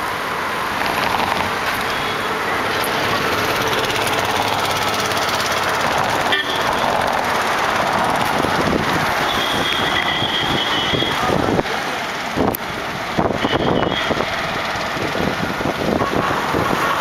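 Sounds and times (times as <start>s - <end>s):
vehicle running noise: 0.0s - 17.0s.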